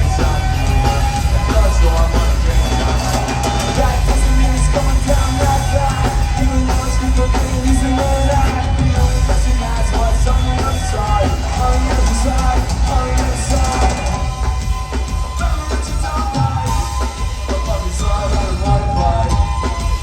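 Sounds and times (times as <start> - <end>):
live punk rock band: 0.0 - 20.0.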